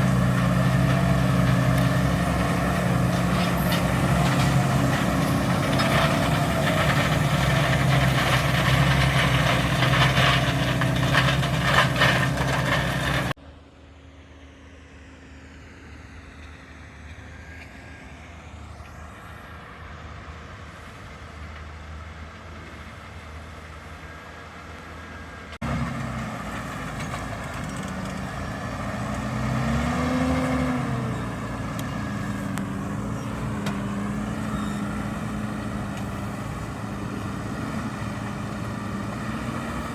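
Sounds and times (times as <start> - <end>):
tractor diesel engine running: 0.0 - 14.8, 17.3 - 39.9.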